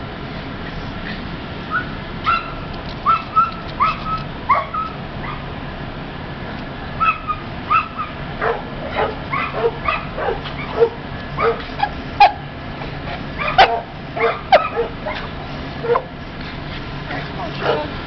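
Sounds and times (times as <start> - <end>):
dogs barking and yipping: 1.7 - 5.6, 6.9 - 18.0.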